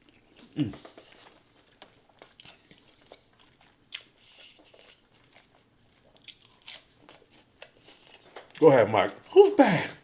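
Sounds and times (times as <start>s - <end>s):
wet chewing clicks and smacks: 0.0s - 8.7s.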